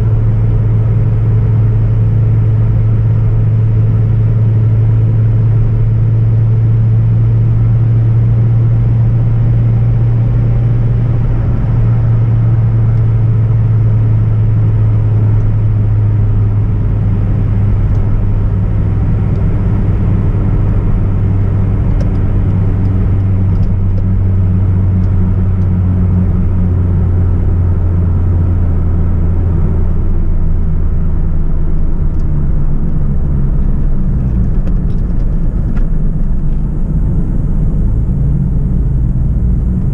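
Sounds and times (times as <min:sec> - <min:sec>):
car engine droning: 0:00.0 - 0:39.9
road and tyre noise: 0:00.0 - 0:39.9.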